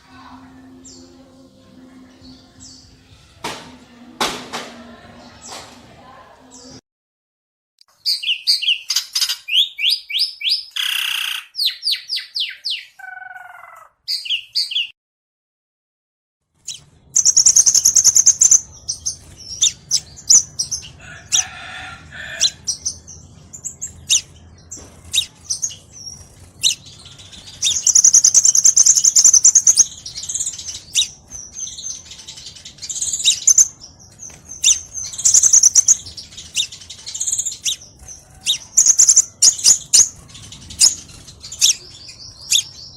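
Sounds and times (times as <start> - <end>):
sunbird chirps and trills: 0.0 - 3.4, 7.9 - 14.9, 16.6 - 42.9.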